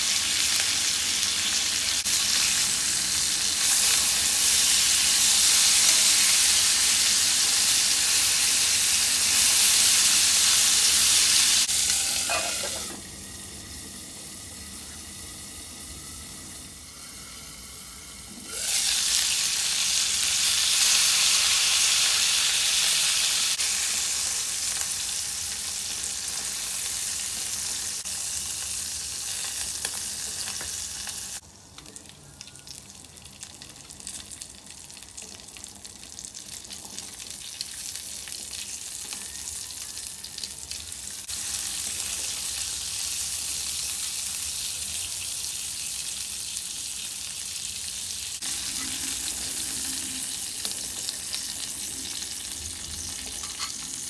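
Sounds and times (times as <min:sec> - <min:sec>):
food sizzling in a skillet: 0:00.0 - 0:31.4, 0:33.4 - 0:54.0.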